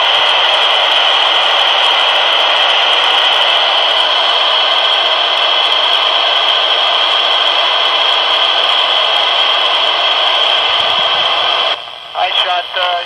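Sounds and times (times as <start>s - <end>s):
radio static hiss: 0.8s - 13.0s.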